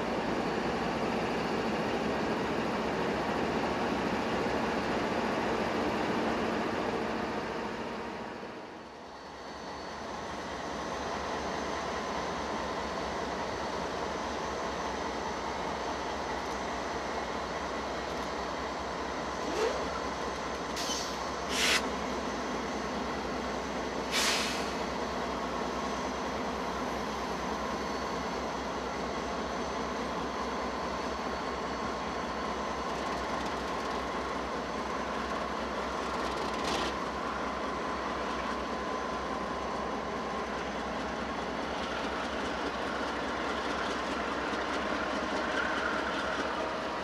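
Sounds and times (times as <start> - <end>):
freight train rumbling: 0.0 - 47.0.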